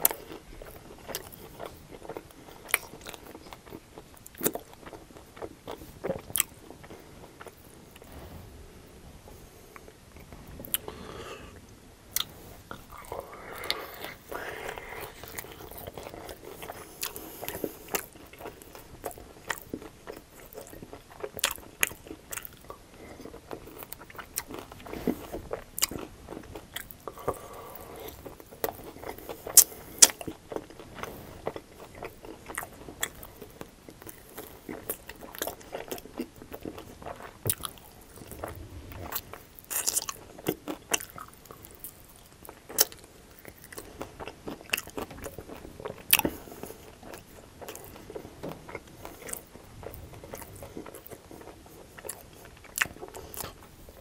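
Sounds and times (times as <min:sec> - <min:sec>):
crunchy biting and chewing: 0:00.0 - 0:08.3, 0:12.2 - 0:54.0.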